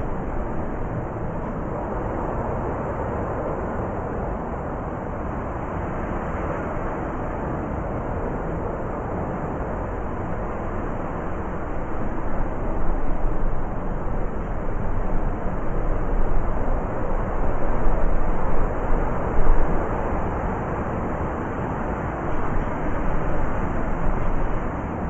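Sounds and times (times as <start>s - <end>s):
blizzard wind gusting: 0.0s - 25.0s.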